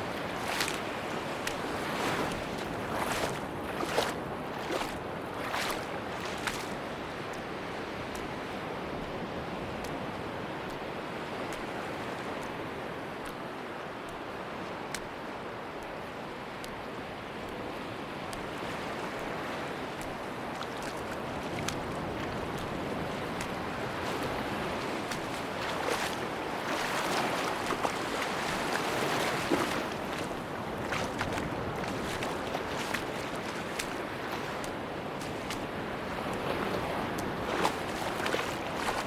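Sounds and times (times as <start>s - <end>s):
faint ticks and crackles: 0.0s - 39.0s
sea waves washing onto beach: 0.0s - 39.0s.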